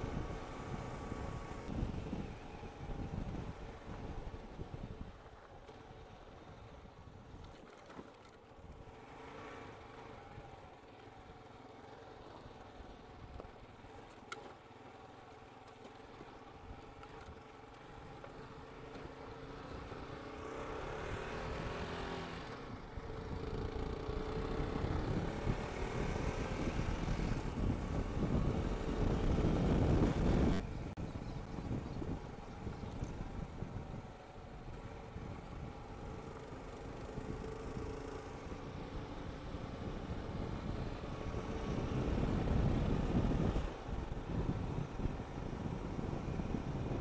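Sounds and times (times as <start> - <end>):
road and wind rumble: 0.0 - 47.0
motorcycle engine running: 8.5 - 47.0.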